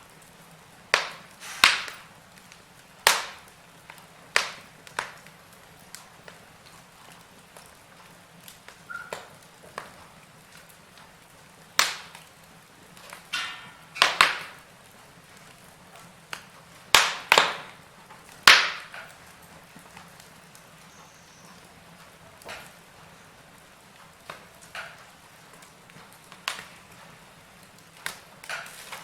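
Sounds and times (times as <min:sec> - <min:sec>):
faint steady hiss: 0:00.0 - 0:29.0
wood fire crackling: 0:00.0 - 0:29.0.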